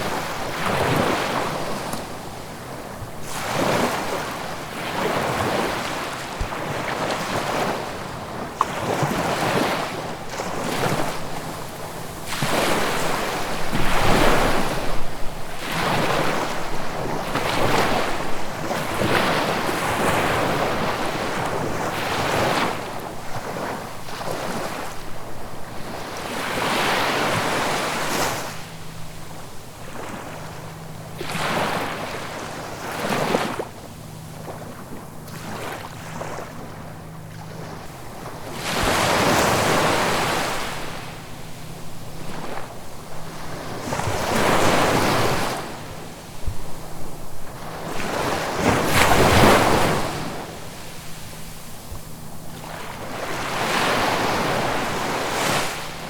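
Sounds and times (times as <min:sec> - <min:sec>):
ocean waves washing onto shore: 0:00.0 - 0:56.0.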